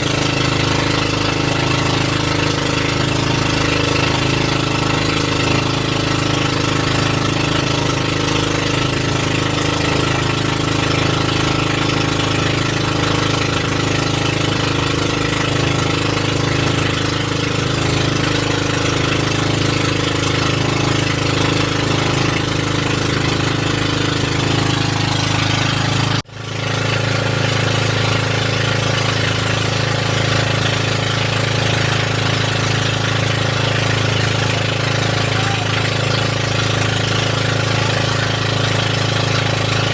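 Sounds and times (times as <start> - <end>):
boat engine running steadily: 0.0 - 39.9.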